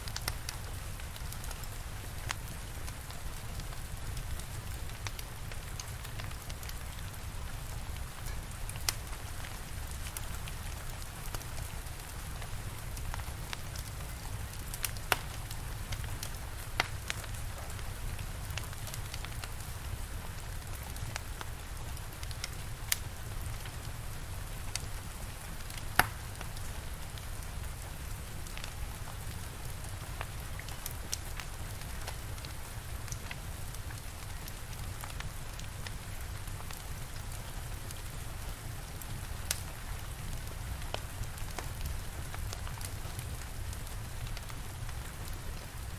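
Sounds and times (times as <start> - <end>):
rain falling: 0.0 - 45.9
wood fire crackling: 0.0 - 45.9.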